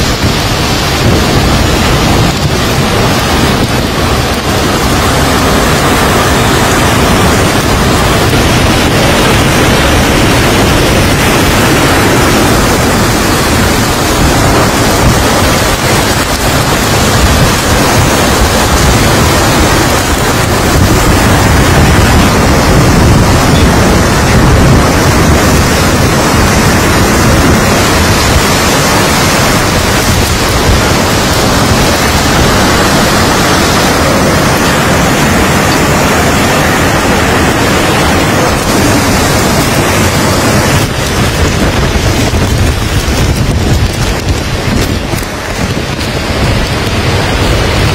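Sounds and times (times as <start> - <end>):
driving rain: 0.0 - 47.9
strong wind: 0.0 - 47.9.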